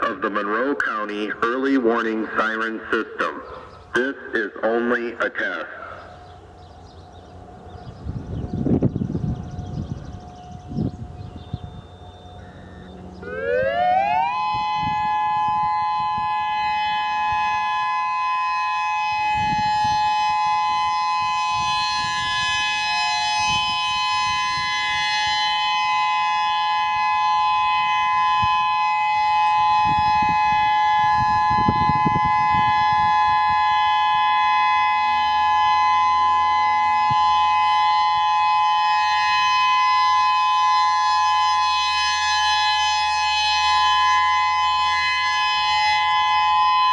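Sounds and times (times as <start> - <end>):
electronic warning siren: 0.0 - 46.9.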